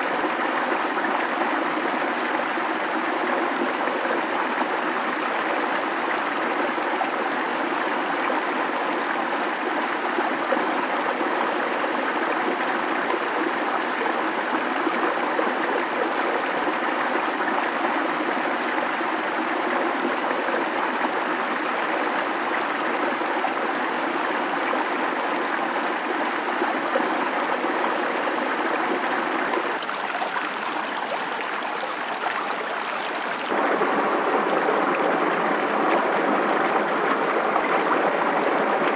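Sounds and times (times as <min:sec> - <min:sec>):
creek flowing over rocks: 0:00.0 - 0:38.9.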